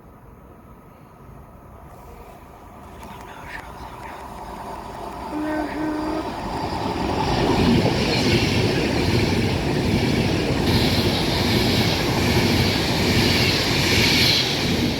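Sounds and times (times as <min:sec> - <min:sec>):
train passing on rails: 0:00.0 - 0:14.9.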